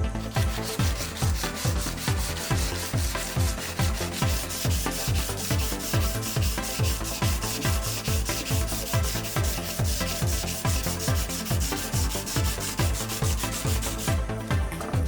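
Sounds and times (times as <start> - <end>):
electronic music with kick drum: 0.0 - 15.0
metal grill grate being scrubbed: 0.2 - 14.2.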